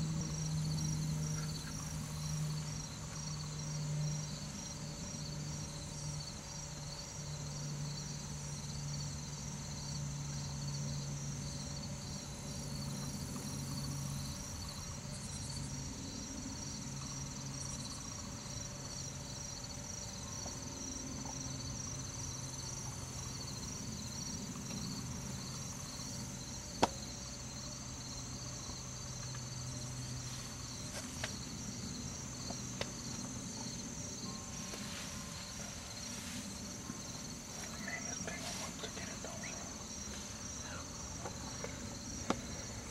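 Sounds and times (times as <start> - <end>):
crickets and insects trilling: 0.0 - 42.9.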